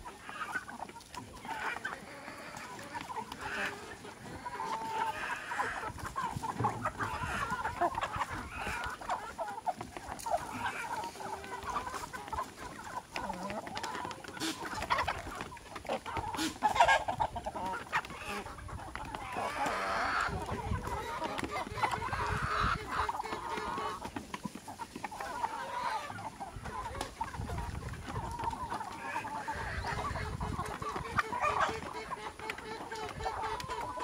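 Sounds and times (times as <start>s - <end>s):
chickens and roosters clucking: 0.0s - 34.0s.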